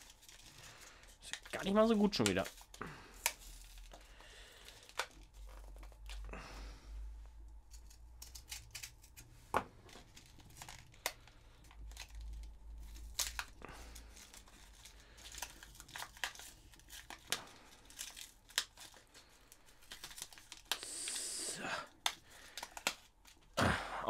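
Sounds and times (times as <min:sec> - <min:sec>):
packaging crinkling and tearing: 0:00.0 - 0:06.3, 0:07.7 - 0:21.2, 0:21.8 - 0:23.6.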